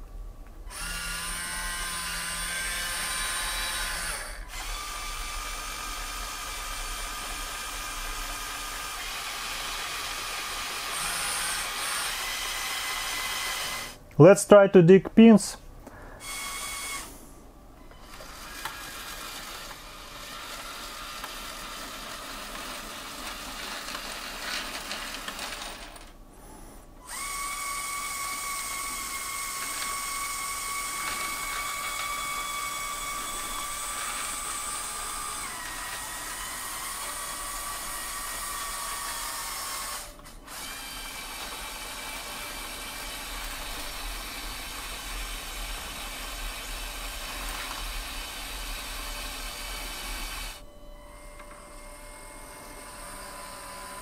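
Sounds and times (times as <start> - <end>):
electric motors whining: 0.7 - 14.0, 16.1 - 17.2, 17.8 - 26.1, 27.0 - 54.0.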